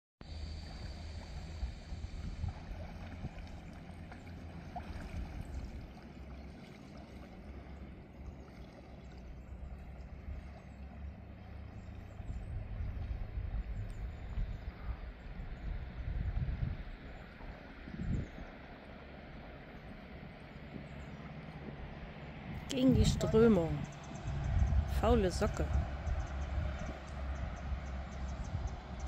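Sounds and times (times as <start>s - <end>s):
low rumble: 0.2s - 29.0s
river water gurgling: 0.2s - 29.0s.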